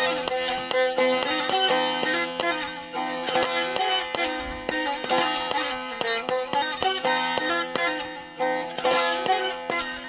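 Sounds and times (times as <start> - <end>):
plucked string melody: 0.0 - 10.0.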